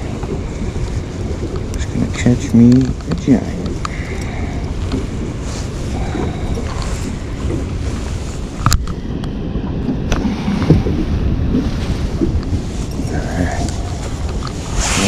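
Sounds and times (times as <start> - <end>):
water lapping: 0.0 - 15.0
wind buffeting microphone: 0.0 - 15.0.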